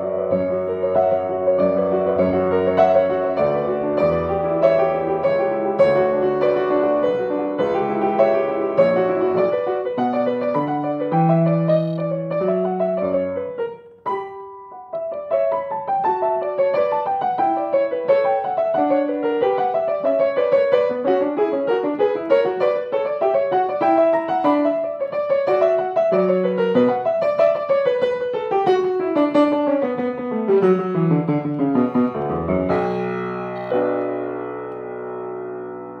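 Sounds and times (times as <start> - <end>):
grand piano playing: 0.0 - 36.0.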